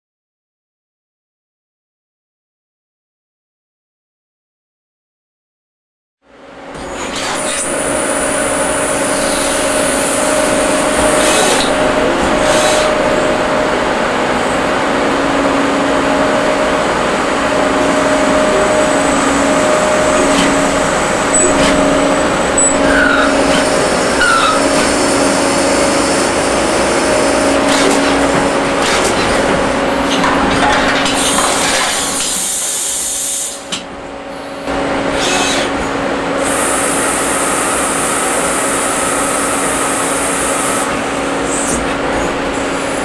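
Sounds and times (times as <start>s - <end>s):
lathe machining hum: 6.3s - 43.0s
low machine tone: 6.3s - 43.0s.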